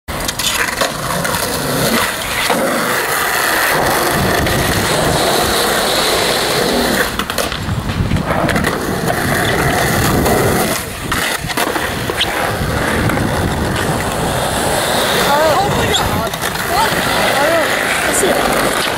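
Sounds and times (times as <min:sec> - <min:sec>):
skateboard clacking on ground: 0:00.1 - 0:18.9
skateboard wheels rolling on concrete: 0:00.1 - 0:18.9.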